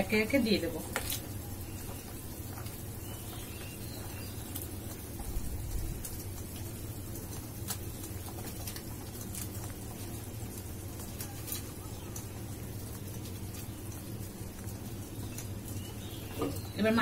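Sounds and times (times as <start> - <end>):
curry bubbling: 0.0 - 17.0.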